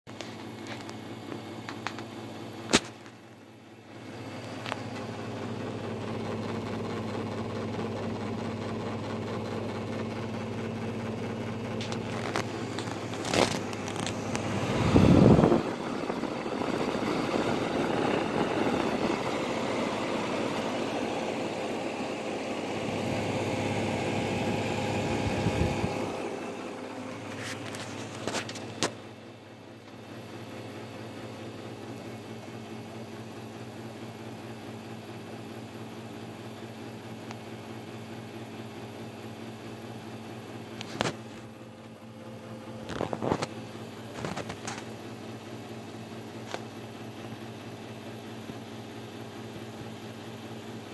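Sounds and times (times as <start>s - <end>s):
dehumidifier fan humming: 0.1s - 50.9s.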